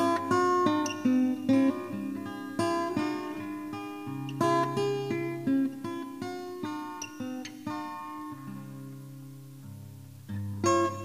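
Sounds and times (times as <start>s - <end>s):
fingerpicked guitar: 0.0s - 11.0s.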